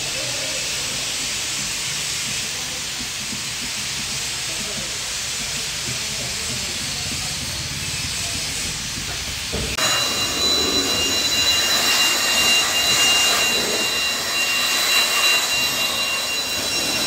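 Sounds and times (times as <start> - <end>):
steady even hiss: 0.0 - 17.0
faint voices: 2.2 - 17.0.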